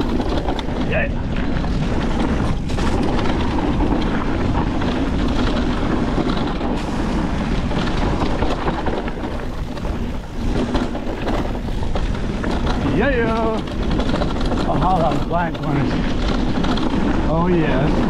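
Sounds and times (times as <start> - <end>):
bike rattling and clicking: 0.0 - 18.0
tyres crunching over rocks: 0.0 - 18.0
wind buffeting microphone: 0.0 - 18.0.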